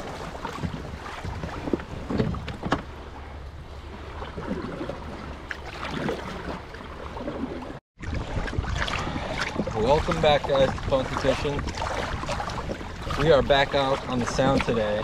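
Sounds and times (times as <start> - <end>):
paddle strokes in water: 0.0 - 15.0
wind rumble on microphone: 0.0 - 15.0.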